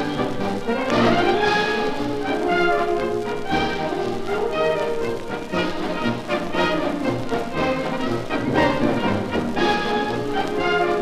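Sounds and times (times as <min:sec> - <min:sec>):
orchestra playing military march: 0:00.0 - 0:11.0.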